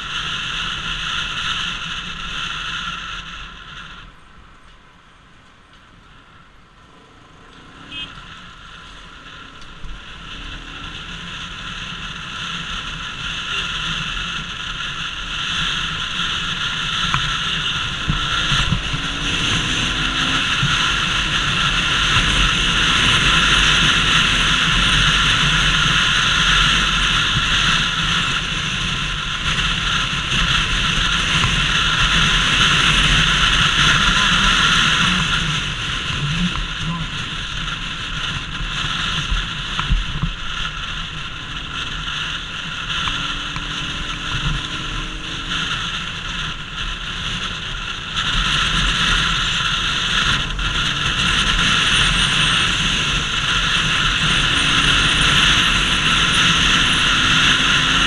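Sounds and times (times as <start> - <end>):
motorcycle engine running: 6.2 - 58.0
wind rushing over microphone: 6.7 - 58.0.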